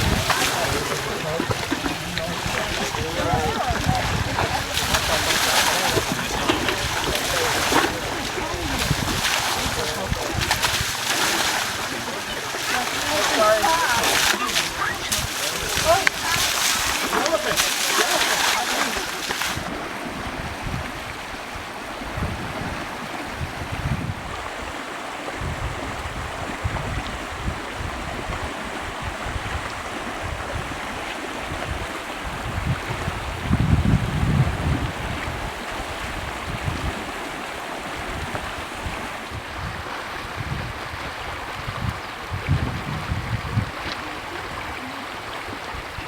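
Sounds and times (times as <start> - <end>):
flowing water: 0.0 - 46.0
wind buffeting microphone: 0.0 - 46.0.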